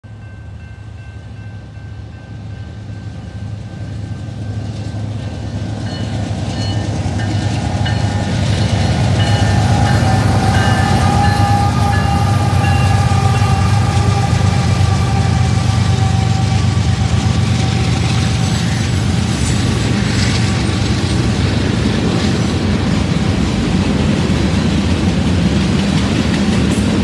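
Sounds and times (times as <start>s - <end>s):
locomotive engine rumble: 0.1s - 27.0s.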